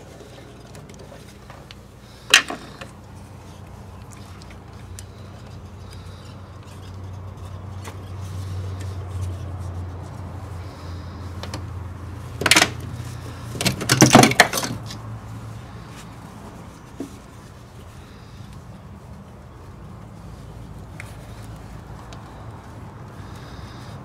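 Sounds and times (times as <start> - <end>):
rags rustling: 0.0 - 24.0.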